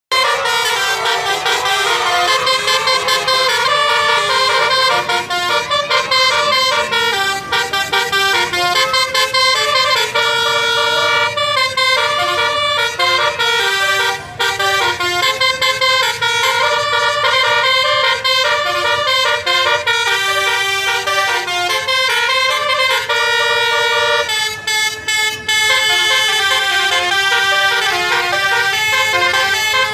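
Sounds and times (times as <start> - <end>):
multi-tone bus horn melody: 0.0 - 29.9.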